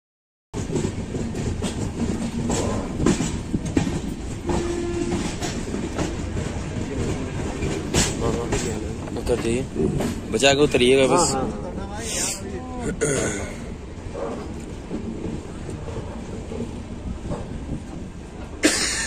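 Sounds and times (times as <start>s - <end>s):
train wheels clattering over rail joints: 0.6s - 11.6s, 14.0s - 19.0s
train rumbling: 0.6s - 19.0s.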